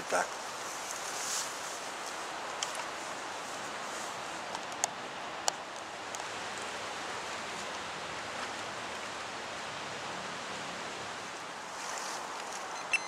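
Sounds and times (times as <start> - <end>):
wind rustling through reeds: 0.0 - 13.0.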